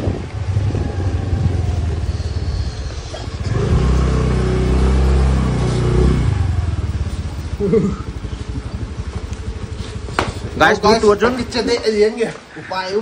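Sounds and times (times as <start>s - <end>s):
motorbike engine running and idling: 0.0s - 12.3s.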